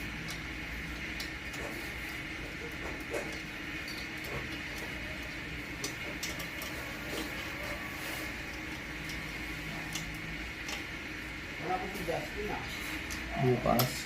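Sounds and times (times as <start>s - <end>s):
workshop hum: 0.0s - 14.0s.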